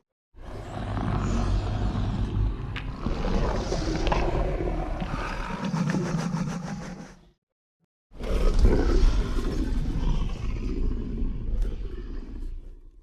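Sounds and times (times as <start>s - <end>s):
low rumbling creature growl: 0.4s - 7.4s, 8.1s - 13.0s.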